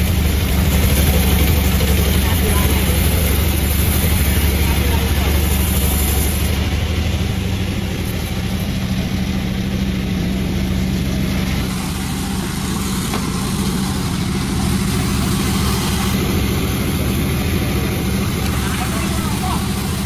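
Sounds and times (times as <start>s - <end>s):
sawing machine engine running: 0.0s - 20.0s.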